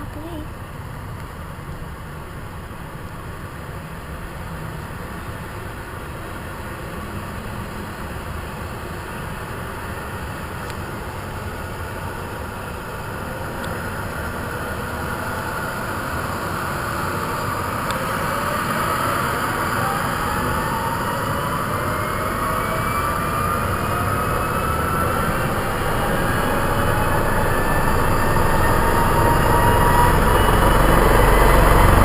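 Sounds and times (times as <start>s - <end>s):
helicopter turbine and rotor noise: 0.0s - 32.0s
rising whine: 0.0s - 32.0s.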